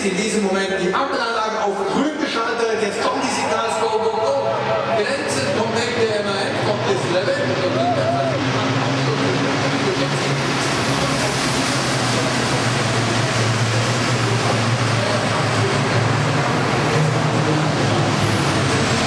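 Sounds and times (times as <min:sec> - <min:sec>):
race truck engines running hard: 0:00.0 - 0:19.0.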